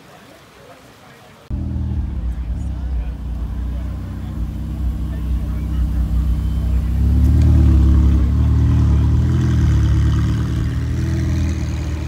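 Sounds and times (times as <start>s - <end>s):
car engine running: 1.5s - 12.0s.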